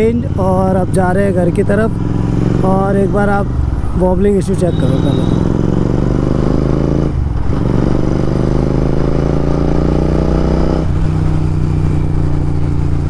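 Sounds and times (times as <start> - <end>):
motorcycle engine accelerating: 0.0 - 4.0, 4.8 - 13.0.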